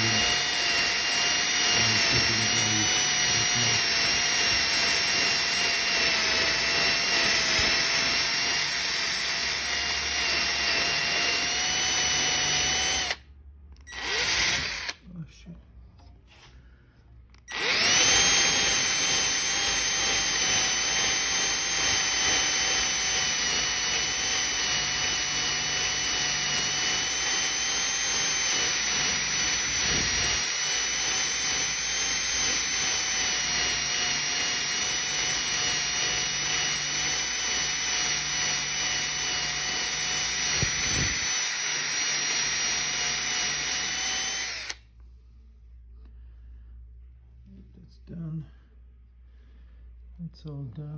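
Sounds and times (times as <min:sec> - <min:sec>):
power sander whining: 0:00.0 - 0:13.2, 0:13.8 - 0:15.0, 0:17.3 - 0:44.8.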